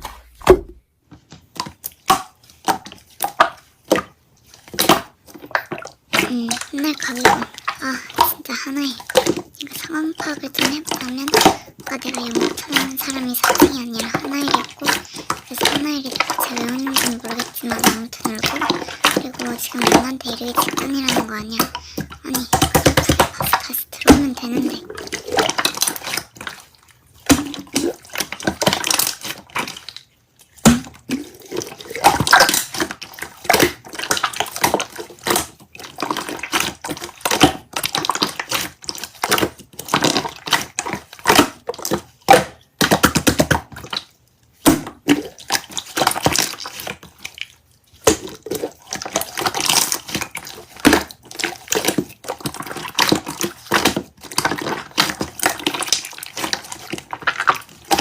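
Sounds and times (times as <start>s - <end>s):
slime squelching: 0.0s - 58.0s.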